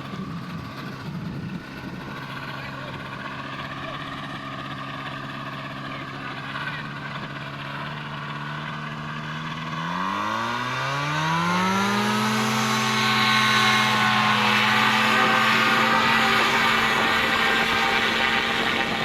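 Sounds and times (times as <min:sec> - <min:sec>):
paramotor engine and propeller: 0:00.0 - 0:19.0.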